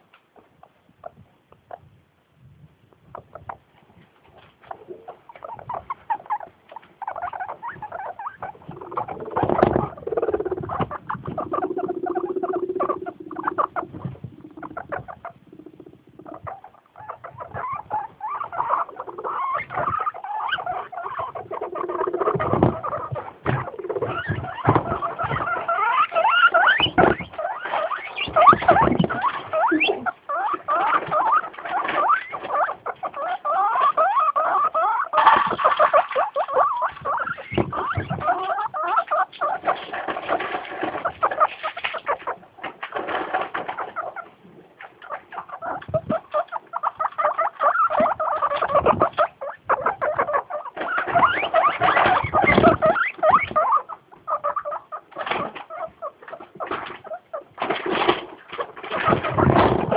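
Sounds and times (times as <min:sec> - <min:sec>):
guinea pigs squeaking: 0:00.6 - 0:01.9, 0:03.0 - 0:59.9.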